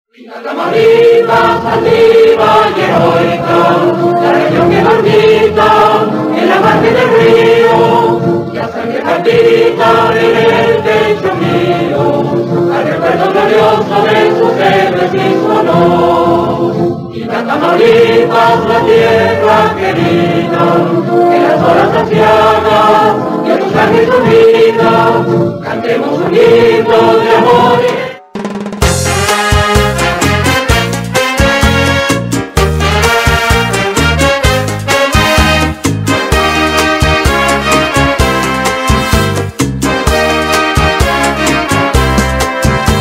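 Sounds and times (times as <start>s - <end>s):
choir singing: 0.1s - 28.3s, 34.9s - 39.0s, 40.0s - 43.0s.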